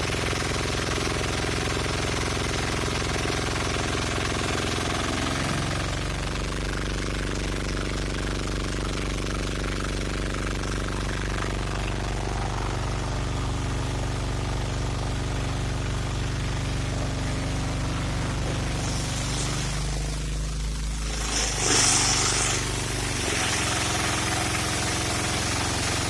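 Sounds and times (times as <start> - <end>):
pressure washer pump pulsing: 0.0 - 26.0.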